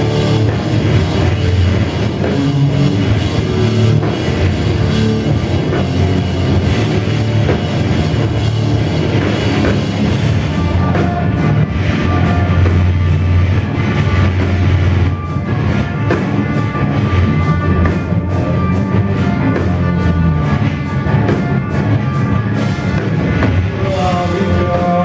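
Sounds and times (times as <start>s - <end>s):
electric guitars: 0.0s - 25.0s
pounding drum kit: 0.0s - 25.0s.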